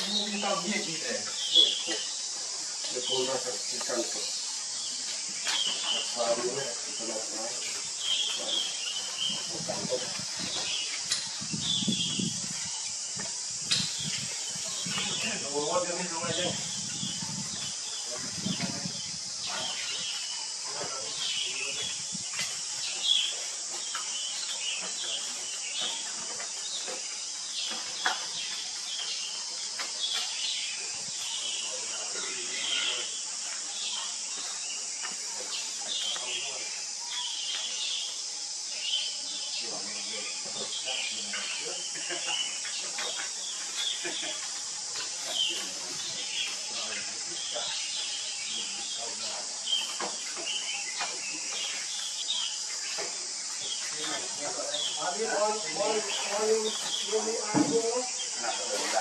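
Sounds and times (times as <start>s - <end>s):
birds chirping: 0.0s - 59.0s
insects droning: 0.0s - 59.0s
steady high hiss: 0.0s - 59.0s.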